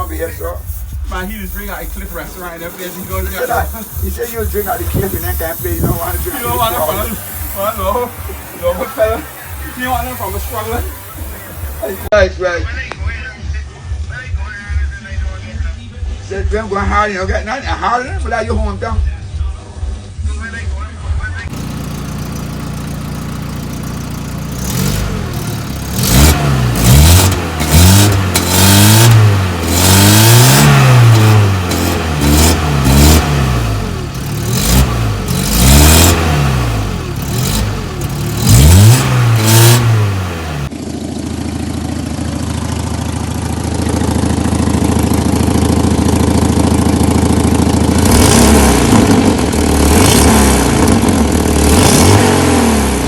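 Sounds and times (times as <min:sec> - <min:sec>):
car engine revving: 0:00.0 - 0:12.1, 0:21.5 - 0:53.0
car engine running steadily: 0:00.0 - 0:12.1, 0:21.5 - 0:53.0.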